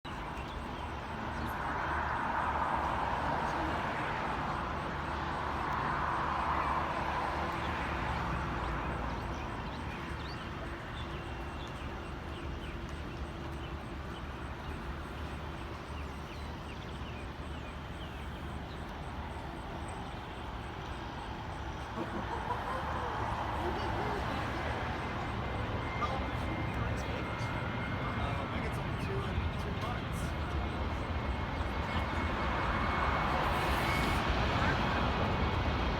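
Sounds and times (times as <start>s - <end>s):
jet engines running: 0.1s - 35.9s.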